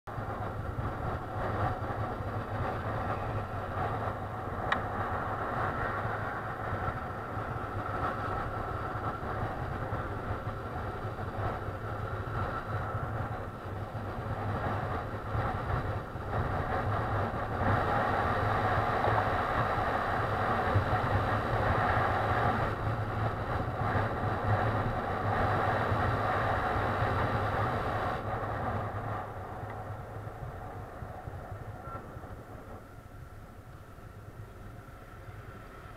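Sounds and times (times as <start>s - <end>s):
road and air noise: 0.1s - 35.9s.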